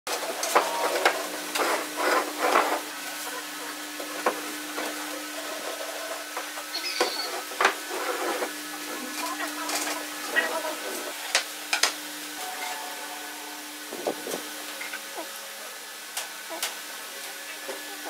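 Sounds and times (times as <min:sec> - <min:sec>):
low hum: 0:00.8 - 0:16.2.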